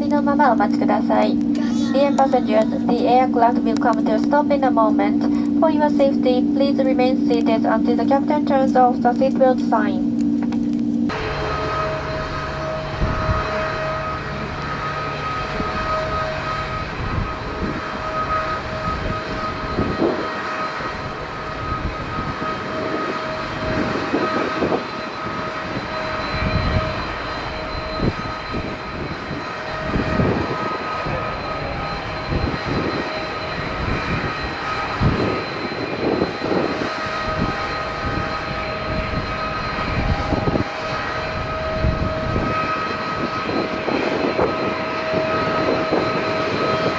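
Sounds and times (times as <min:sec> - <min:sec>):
airliner engines whining: 0:00.0 - 0:46.9
low rumbles of plane rolling: 0:00.0 - 0:46.9.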